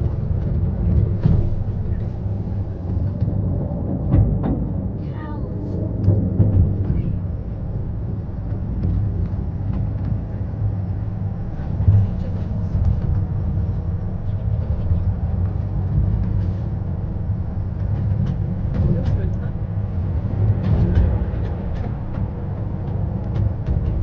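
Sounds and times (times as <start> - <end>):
miniature train rumbling on track: 0.0 - 24.0.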